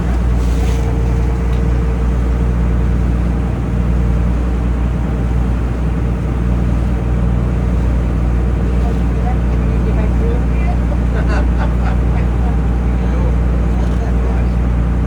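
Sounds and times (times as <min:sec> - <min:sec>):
boat engine droning: 0:00.0 - 0:15.0
water noise against hull: 0:00.0 - 0:15.0.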